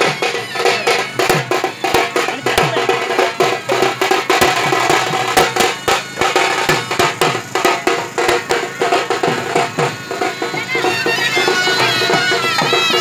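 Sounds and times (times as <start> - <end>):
barrel drum beating: 0.0 - 13.0
stick drum beating: 0.0 - 13.0.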